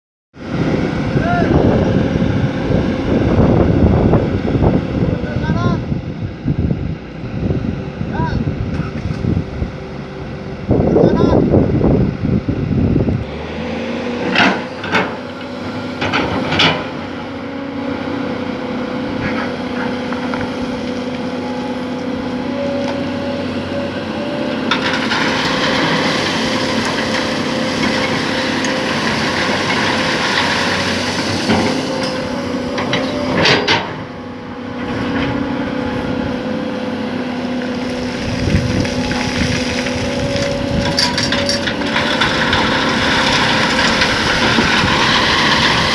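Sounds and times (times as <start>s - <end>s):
excavator diesel engine running: 0.4s - 45.9s.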